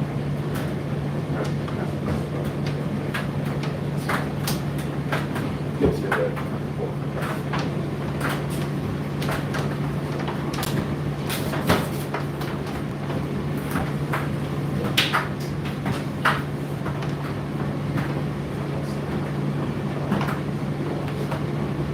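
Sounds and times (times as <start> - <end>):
tumble dryer motor hum: 0.0 - 21.9.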